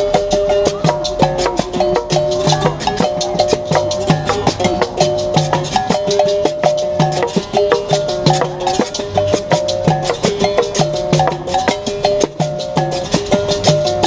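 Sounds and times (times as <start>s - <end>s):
berimbau playing: 0.0s - 14.0s
shaker and hand percussion: 0.0s - 14.0s.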